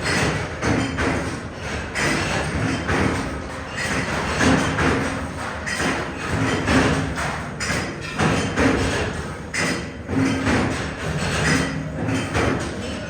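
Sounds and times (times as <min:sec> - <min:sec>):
factory machinery running: 0:00.0 - 0:13.0
machine thuds and clatter: 0:00.0 - 0:13.0.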